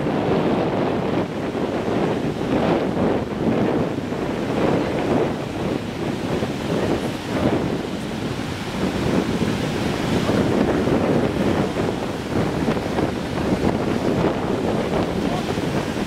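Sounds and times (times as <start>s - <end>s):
waves breaking: 0.0s - 16.0s
wind buffeting microphone: 0.0s - 16.0s.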